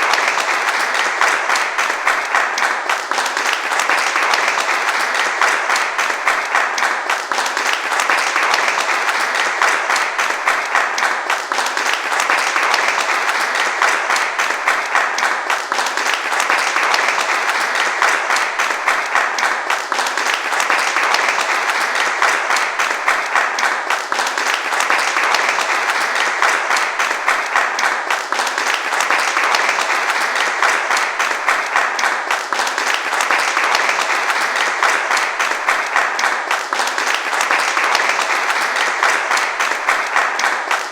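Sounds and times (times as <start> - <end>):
crowd applauding: 0.0 - 40.9.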